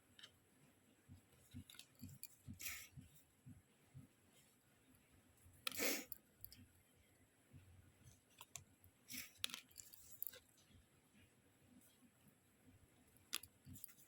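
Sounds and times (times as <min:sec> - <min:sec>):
light clicks and taps: 0:00.0 - 0:06.7, 0:07.6 - 0:12.0, 0:13.3 - 0:14.0.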